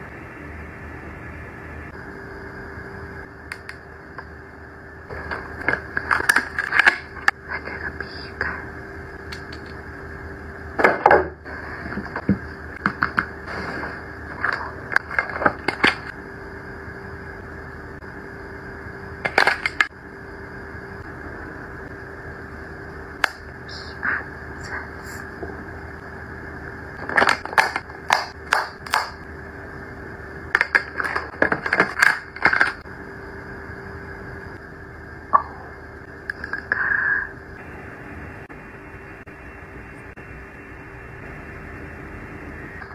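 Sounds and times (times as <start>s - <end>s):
steady background hum: 0.0s - 42.9s.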